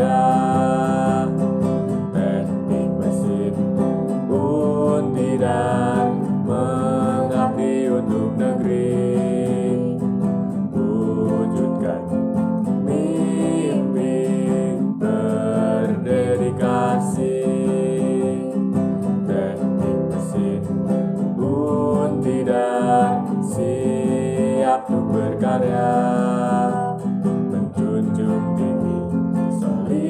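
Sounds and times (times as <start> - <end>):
person singing: 0.0 - 30.0
strummed acoustic guitar: 0.0 - 30.0.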